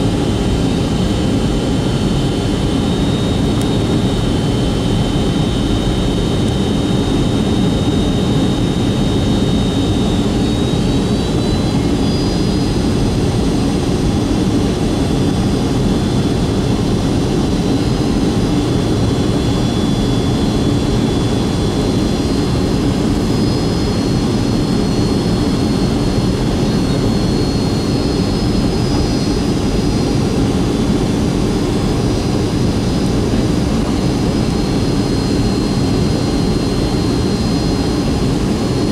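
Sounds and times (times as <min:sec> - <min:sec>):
jet engine and airflow rush: 0:00.0 - 0:38.9
thin high engine whine: 0:00.0 - 0:38.9.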